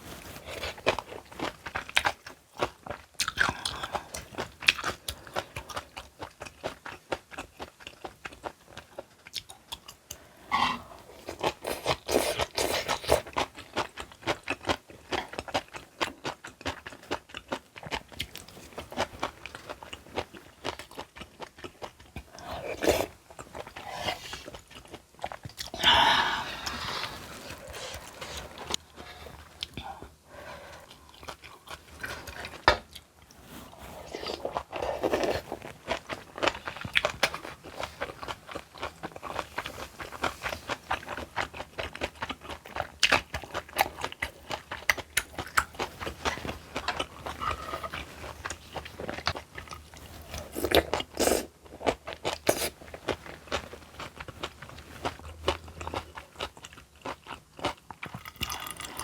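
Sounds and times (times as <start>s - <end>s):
person chewing and crunching food: 0.0s - 59.0s.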